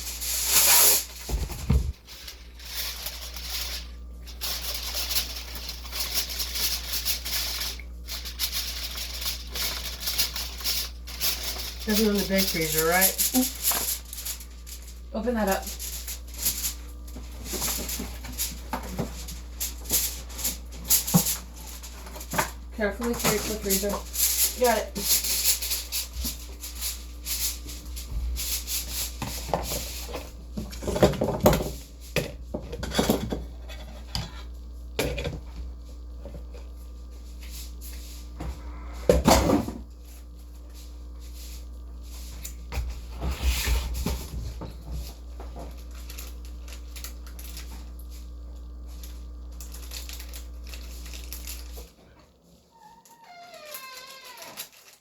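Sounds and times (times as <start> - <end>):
steady low hum: 0.0 - 52.8.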